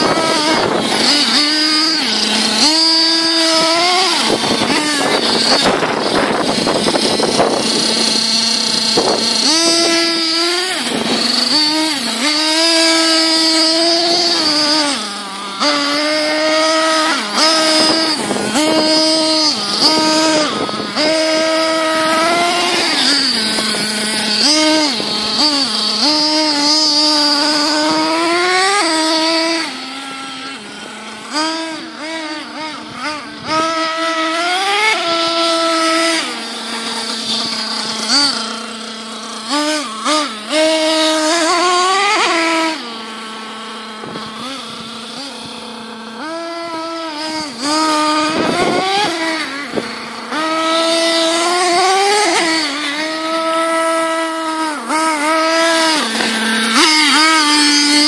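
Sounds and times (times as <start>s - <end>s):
nitro engine revving and idling: 0.0s - 58.0s.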